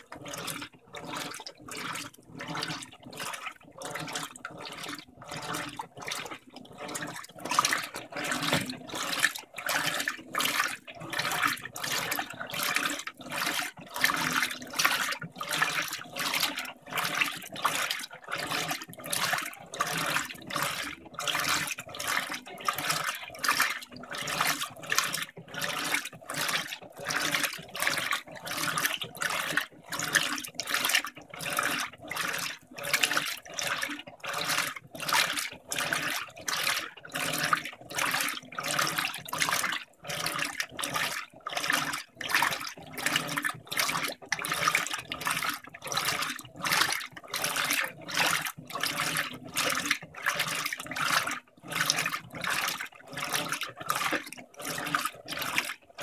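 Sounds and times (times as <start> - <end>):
washing machine swishing water: 0.0 - 56.0.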